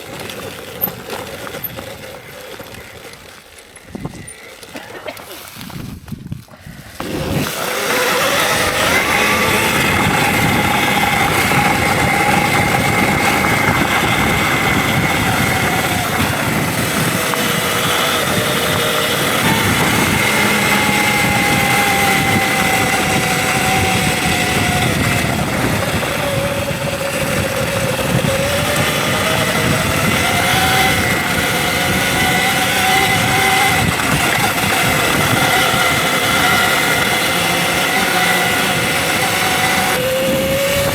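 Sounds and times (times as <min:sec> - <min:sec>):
electric motor whine: 0:06.8 - 0:40.9
steady rushing noise: 0:06.8 - 0:40.9.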